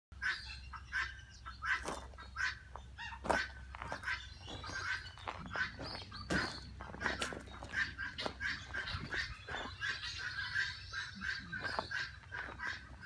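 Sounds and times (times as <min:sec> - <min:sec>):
short bird calls: 0:00.2 - 0:13.0.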